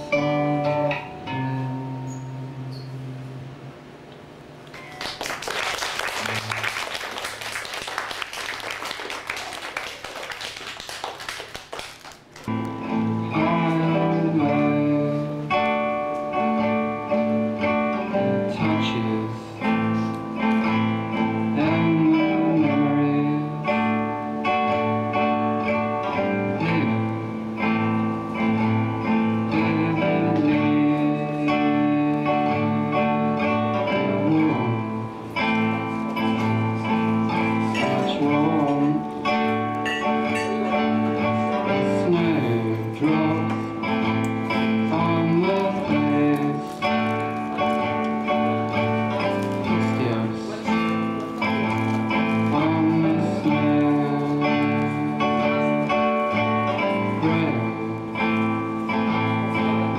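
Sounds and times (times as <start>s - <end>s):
plucked guitar music: 0.0s - 3.8s, 12.4s - 59.9s.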